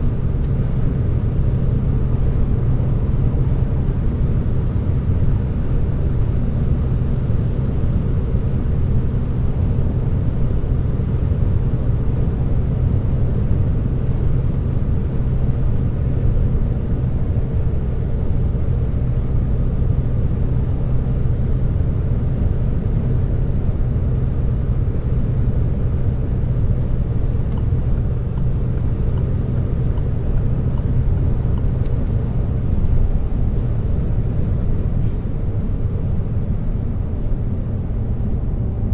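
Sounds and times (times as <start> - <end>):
car engine hum and road noise: 0.0 - 38.9.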